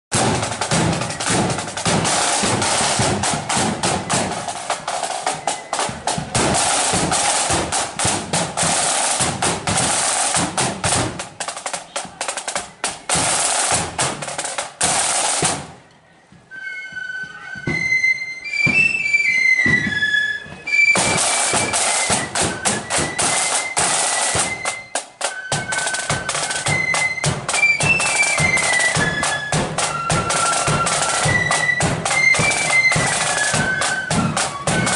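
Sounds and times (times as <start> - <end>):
snare drums rolling: 0.1 - 15.8, 18.6 - 34.9
flutes playing melody: 0.2 - 11.0, 16.4 - 34.9.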